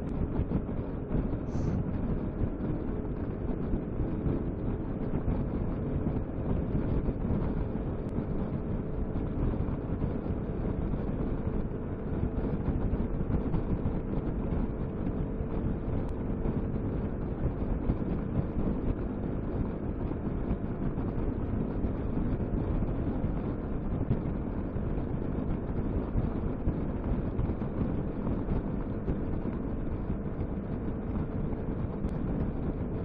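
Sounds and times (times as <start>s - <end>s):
wind rush over microphone: 0.0s - 33.0s.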